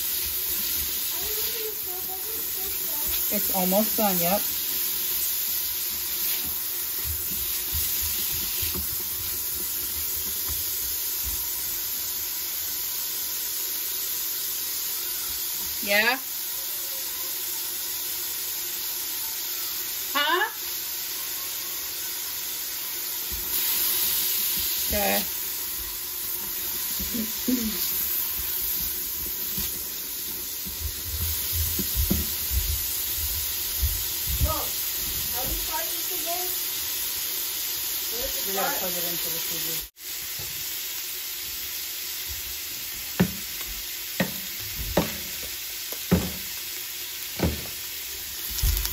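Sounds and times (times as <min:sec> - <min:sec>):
vegetables sizzling in oil: 0:00.0 - 0:48.9.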